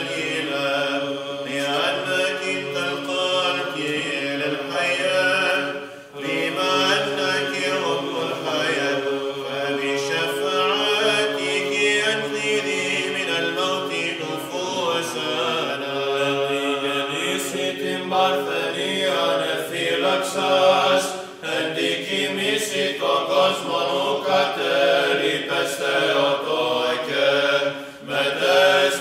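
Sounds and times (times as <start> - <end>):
group of voices chanting: 0.0 - 29.0.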